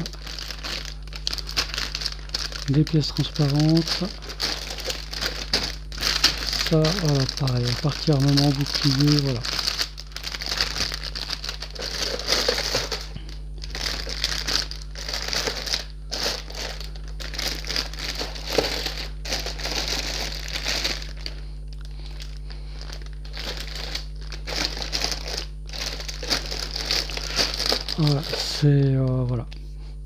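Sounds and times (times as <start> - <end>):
plastic bags crinkling: 0.0 - 29.4.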